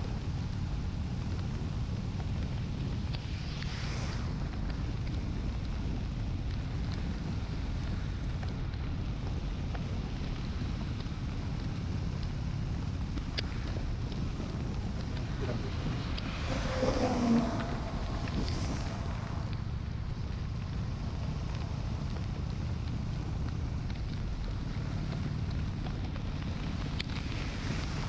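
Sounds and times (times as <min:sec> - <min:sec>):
raindrops ticking on camera: 0:00.0 - 0:03.8, 0:04.4 - 0:28.0
motorcycle engine rumble: 0:00.0 - 0:28.0
wind buffeting microphone: 0:00.0 - 0:28.0.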